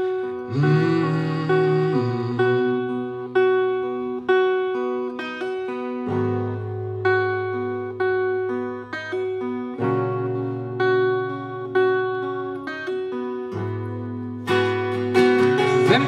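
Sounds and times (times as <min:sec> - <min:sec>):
acoustic guitar picked chords: 0:00.0 - 0:16.0.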